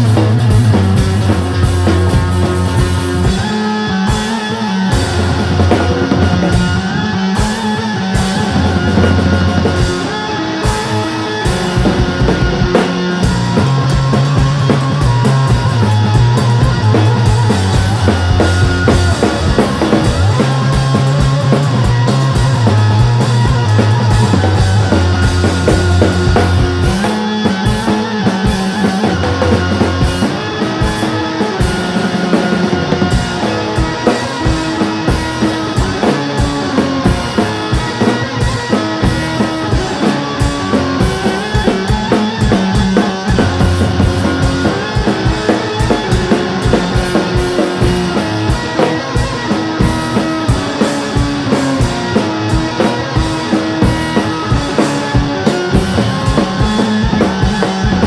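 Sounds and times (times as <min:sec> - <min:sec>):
drum kit steady beat: 0:00.0 - 0:58.0
guitar playing: 0:00.0 - 0:58.0.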